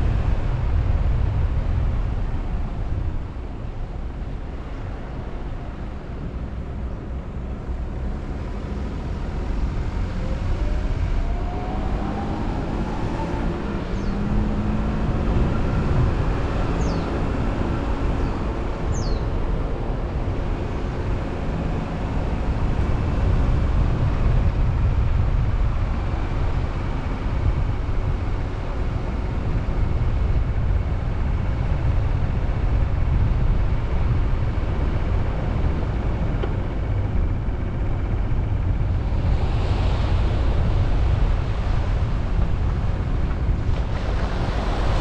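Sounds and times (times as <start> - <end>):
car driving rumble: 0.0 - 45.0
wind noise on microphone: 0.0 - 45.0.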